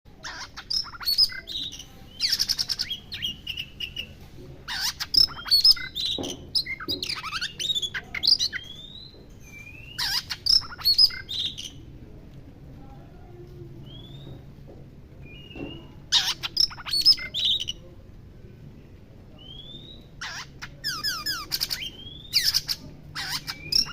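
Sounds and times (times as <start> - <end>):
bird singing rasping notes: 0.2 - 11.8, 13.8 - 14.4, 15.2 - 17.9, 19.4 - 23.9.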